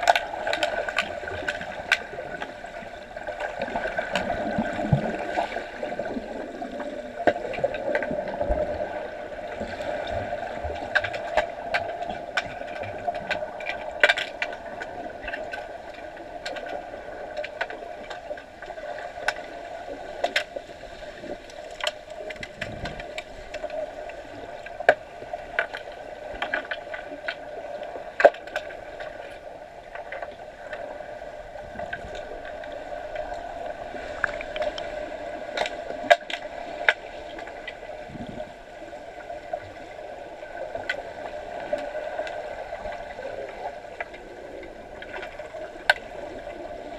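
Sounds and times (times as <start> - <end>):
sharp clicks and knocks underwater: 0.0 - 30.9, 31.6 - 39.8, 40.5 - 46.9
underwater hum: 0.0 - 46.9.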